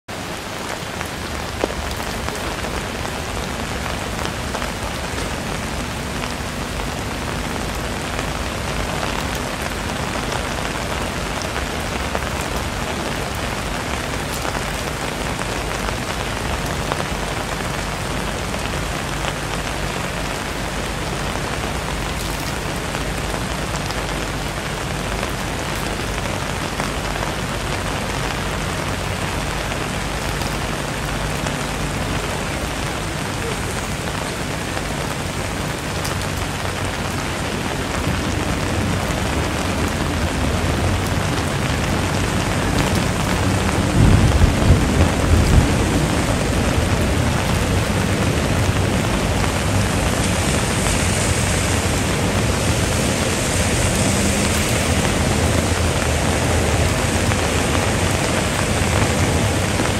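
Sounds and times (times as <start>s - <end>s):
rain splashing on hard surfaces: 0.0s - 59.9s.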